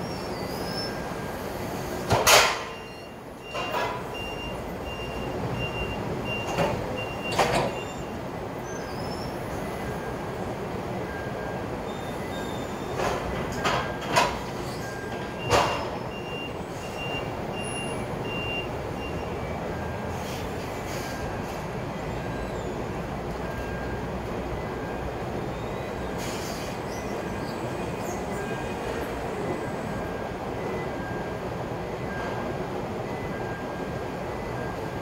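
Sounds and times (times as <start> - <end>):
forklift warning alarm beeping: 0.7 - 9.0, 9.6 - 35.0.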